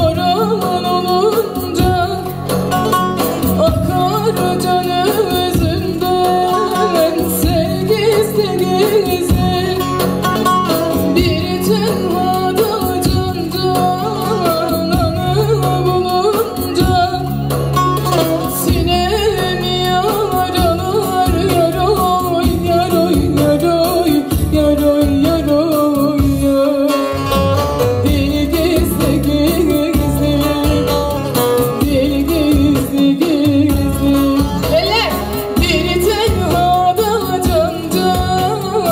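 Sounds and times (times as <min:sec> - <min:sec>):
woman singing: 0:00.0 - 0:38.9.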